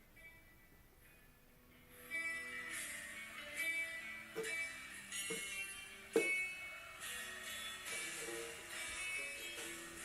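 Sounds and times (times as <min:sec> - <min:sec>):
guitar strumming chords: 0:01.8 - 0:10.0.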